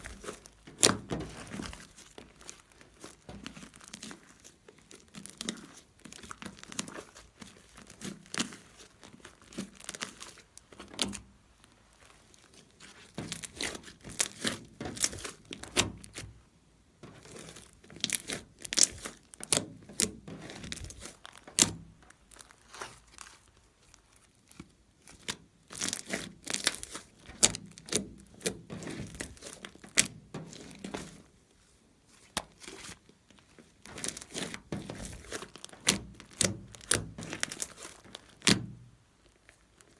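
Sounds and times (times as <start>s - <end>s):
slime crackling and popping: 0.0s - 16.4s, 17.0s - 31.3s, 32.2s - 39.9s.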